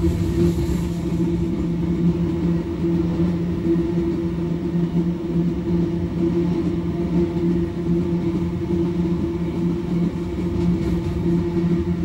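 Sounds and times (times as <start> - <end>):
locomotive engines droning: 0.0 - 12.0.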